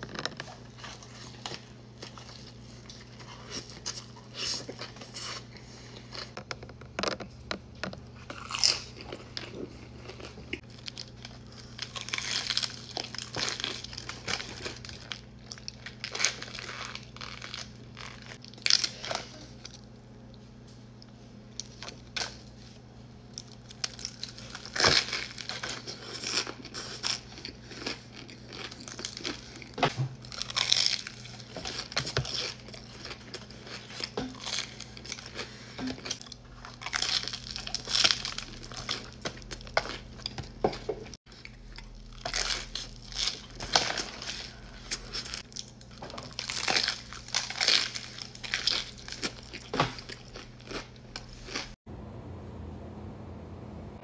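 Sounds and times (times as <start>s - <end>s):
crunchy food being chewed: 0.0s - 51.8s.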